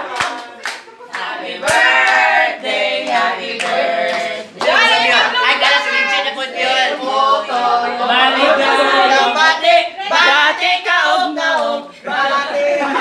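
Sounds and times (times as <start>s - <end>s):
group singing together: 0.0s - 13.0s.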